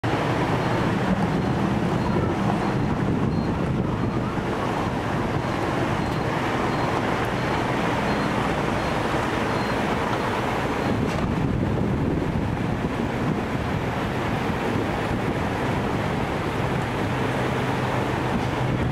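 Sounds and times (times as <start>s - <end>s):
faint engine hum: 0.0s - 18.9s
wheels splashing through water: 0.0s - 18.9s
rain: 0.1s - 18.9s.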